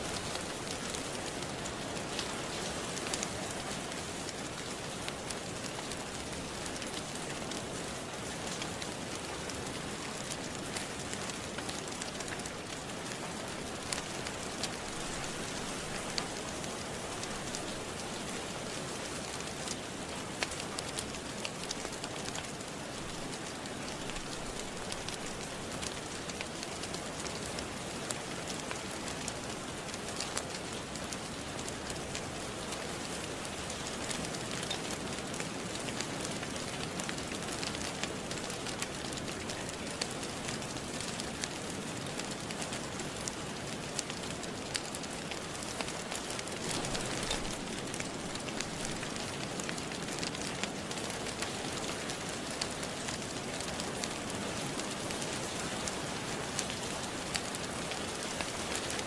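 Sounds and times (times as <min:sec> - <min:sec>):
steady rain: 0:00.0 - 0:59.0
wood fire crackling: 0:00.0 - 0:59.0.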